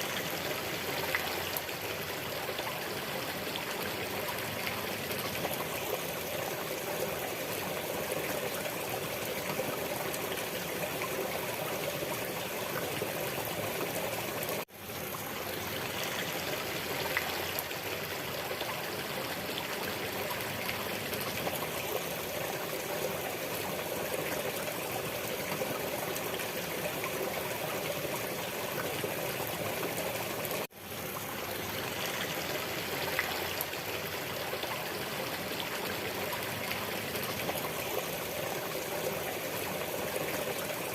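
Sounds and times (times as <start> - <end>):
stream water trickling: 0.0 - 40.9.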